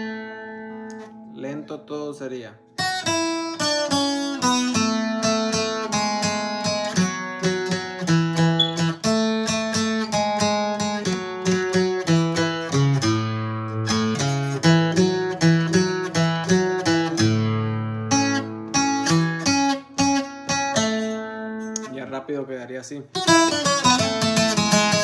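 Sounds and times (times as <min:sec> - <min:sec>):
acoustic guitar picking: 0:00.0 - 0:02.0, 0:02.6 - 0:22.1, 0:23.1 - 0:25.0.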